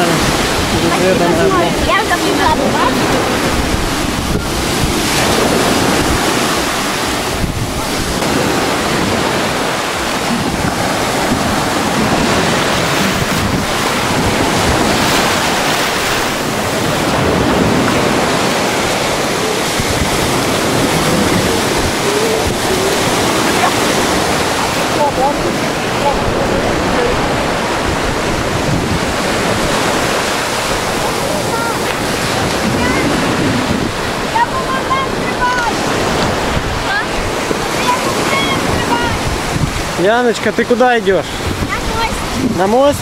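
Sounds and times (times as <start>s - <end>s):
waves breaking on a beach: 0.0s - 43.0s
wind buffeting microphone: 0.0s - 43.0s.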